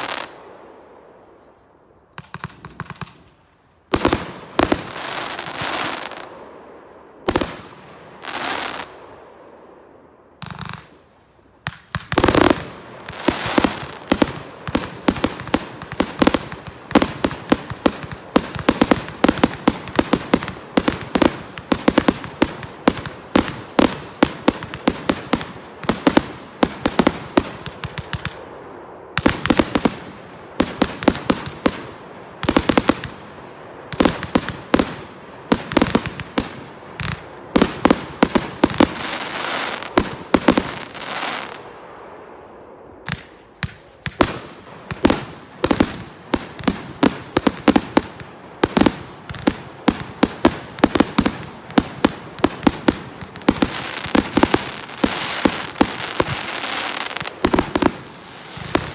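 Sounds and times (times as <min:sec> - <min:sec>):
fireworks bangs and crackles: 0:00.0 - 0:58.9.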